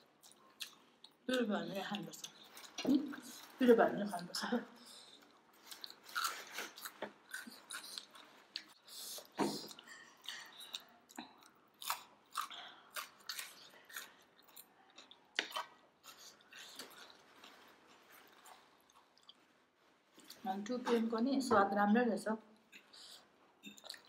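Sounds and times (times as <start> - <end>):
people chewing and smacking: 0.0 - 3.6, 4.3 - 20.5, 22.6 - 24.0.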